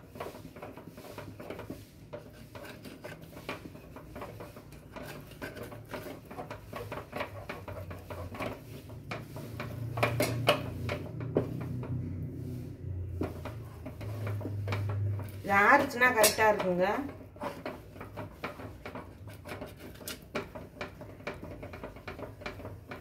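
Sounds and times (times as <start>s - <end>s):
knocks and scrapes on steel pot: 0.0s - 23.0s
paddle stirring thick batter: 0.0s - 23.0s.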